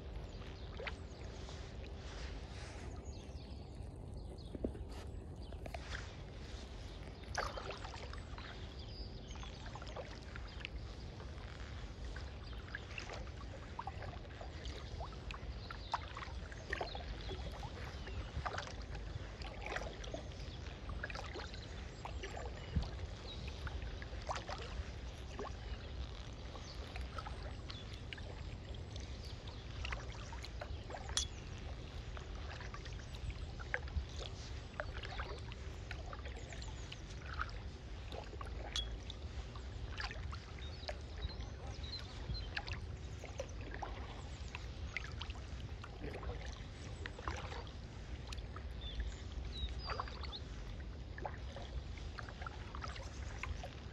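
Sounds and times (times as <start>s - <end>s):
paddle splashes and drips: 0.0s - 53.9s
steady low rumble: 0.0s - 53.9s.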